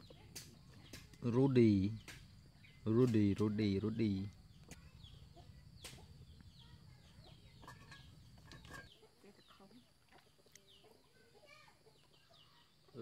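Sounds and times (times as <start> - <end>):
faint chickens clucking: 0.0 - 13.0.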